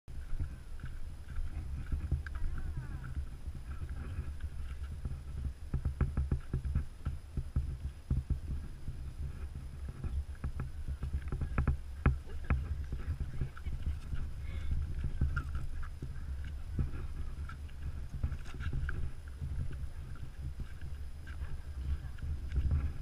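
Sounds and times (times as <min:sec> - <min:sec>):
low microphone rumble: 0:00.1 - 0:23.0.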